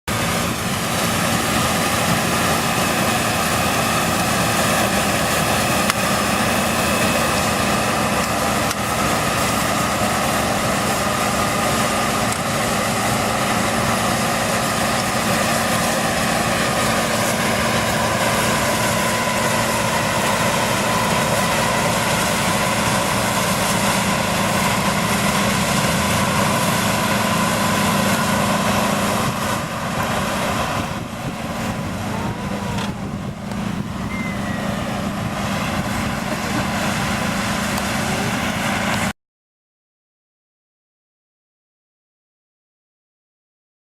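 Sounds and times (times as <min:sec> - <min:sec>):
combine harvester droning: 0:00.1 - 0:39.1
machinery whining tones: 0:00.1 - 0:39.1.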